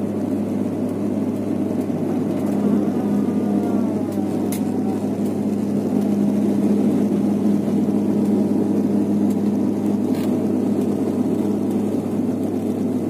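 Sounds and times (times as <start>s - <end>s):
airliner engine and propeller drone: 0.0s - 13.0s.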